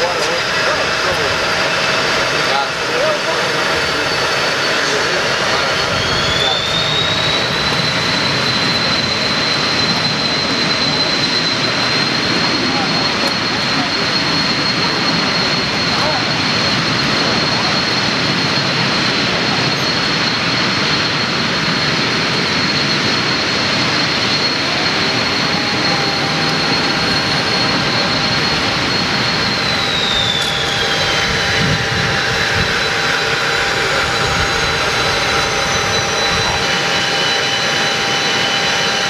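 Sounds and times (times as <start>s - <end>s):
jet engine rushing and whining: 0.0s - 39.0s.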